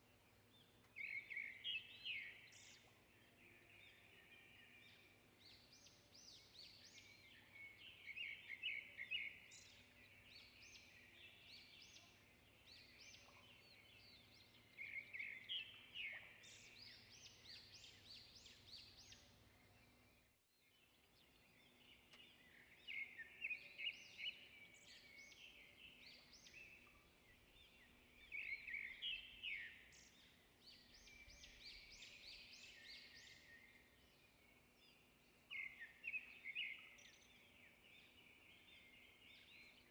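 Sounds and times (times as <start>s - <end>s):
faint bird chirping: 0.0s - 39.9s.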